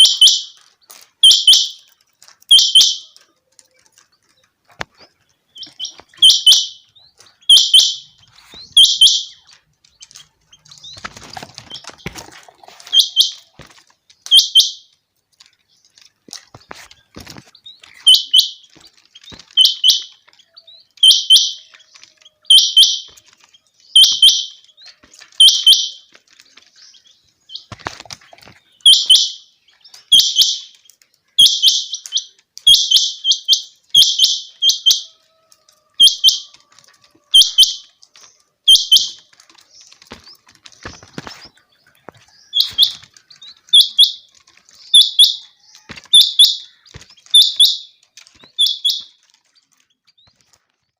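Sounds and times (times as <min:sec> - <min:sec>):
quail calling: 0:00.0 - 0:04.0, 0:04.8 - 0:14.9, 0:16.6 - 0:26.4, 0:27.5 - 0:49.2.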